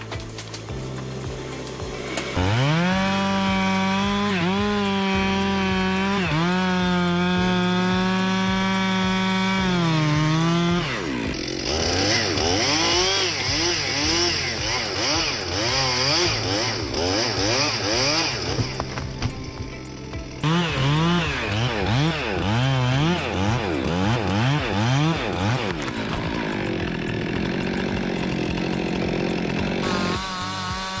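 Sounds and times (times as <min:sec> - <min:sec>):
chainsaw revving: 0:00.3 - 0:31.0.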